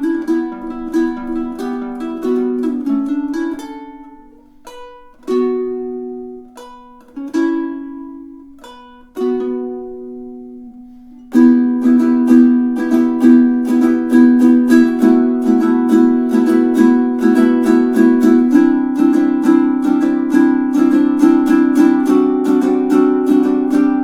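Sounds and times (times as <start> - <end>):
ukulele chords ringing: 0.0 - 24.0
ukulele rhythmic strumming: 0.0 - 24.0.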